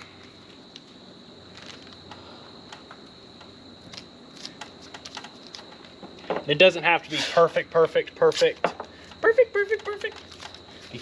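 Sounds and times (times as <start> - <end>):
masking tape crackling: 0.1 - 6.2, 8.2 - 11.0.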